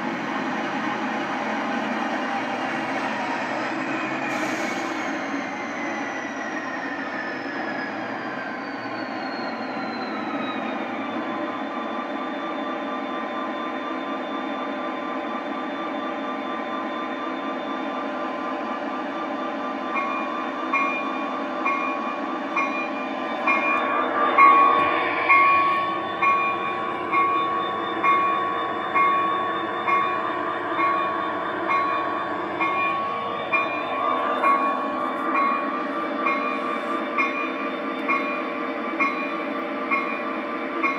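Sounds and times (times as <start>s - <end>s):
simulated diesel locomotive engine: 0.0s - 40.9s.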